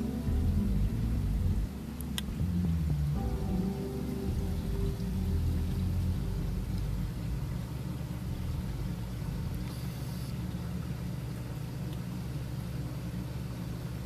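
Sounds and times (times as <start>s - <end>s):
aquarium pumps humming: 0.0s - 14.0s.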